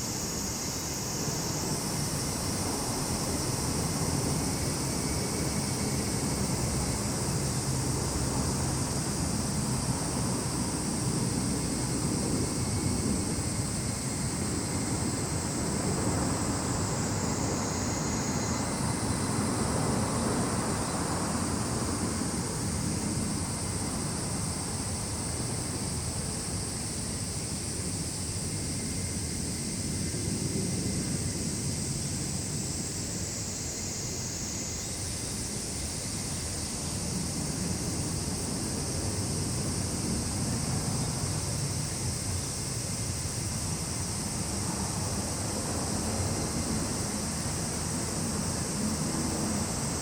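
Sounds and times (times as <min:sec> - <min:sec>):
cicadas and crickets shrilling: 0:00.0 - 0:50.0.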